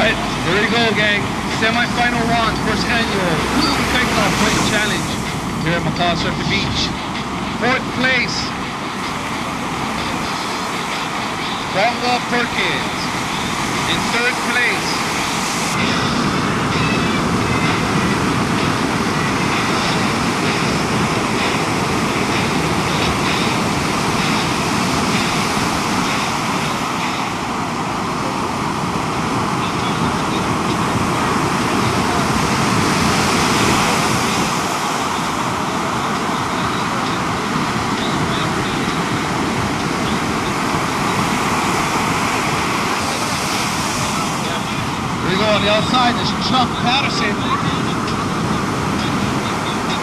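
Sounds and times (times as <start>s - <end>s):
ocean surf: 0.0s - 50.0s.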